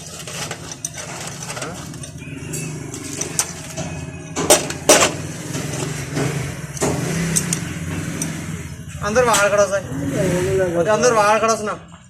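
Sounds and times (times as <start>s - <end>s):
sharp metal clanks: 0.0s - 9.7s.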